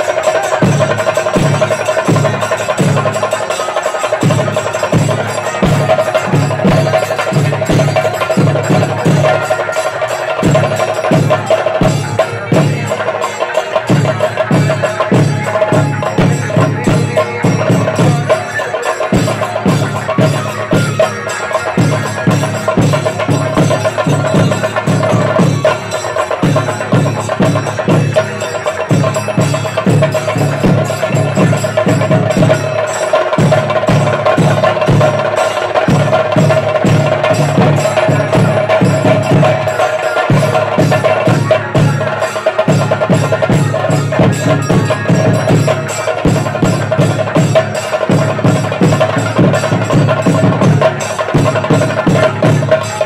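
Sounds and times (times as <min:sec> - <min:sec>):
fast drumming: 0:00.0 - 0:53.0.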